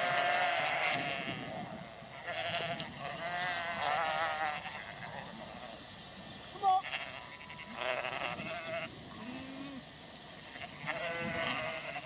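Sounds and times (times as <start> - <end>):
sheep bleating: 0.0 - 5.8, 6.6 - 12.0.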